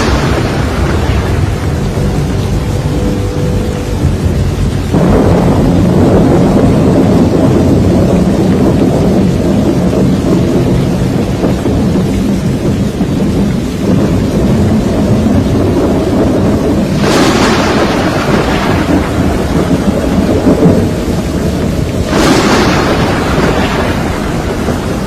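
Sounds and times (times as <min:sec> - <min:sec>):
heavy rain: 0:00.0 - 0:25.0
hurricane wind: 0:00.0 - 0:25.0.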